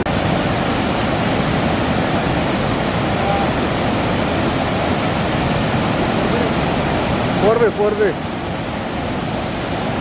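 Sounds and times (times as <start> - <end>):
water rushing through sluice gates: 0.0 - 10.0.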